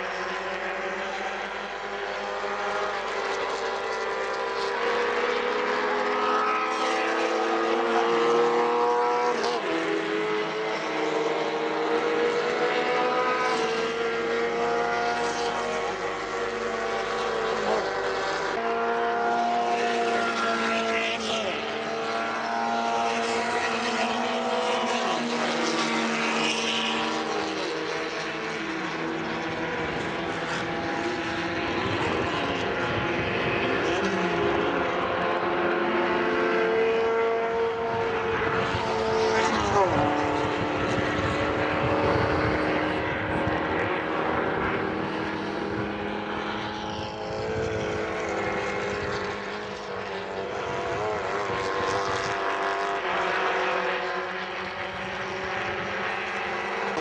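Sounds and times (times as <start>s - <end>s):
race car engines at high revs: 0.0s - 57.0s.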